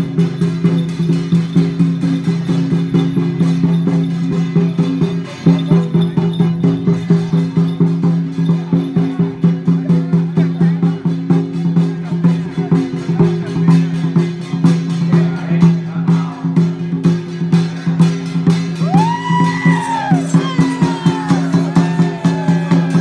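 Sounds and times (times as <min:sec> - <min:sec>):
music with wood block beat: 0:00.0 - 0:23.0.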